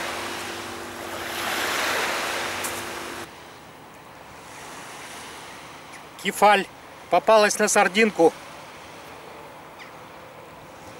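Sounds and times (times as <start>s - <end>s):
small waves washing on beach: 0.0s - 10.9s.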